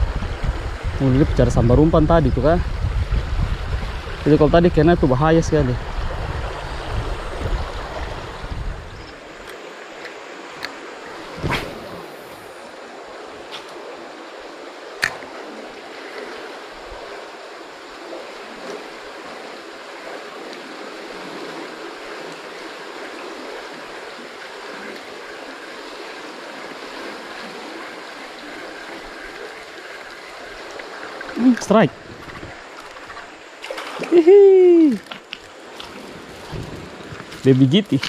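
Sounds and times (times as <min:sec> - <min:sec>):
river water rushing: 0:05.0 - 0:38.0.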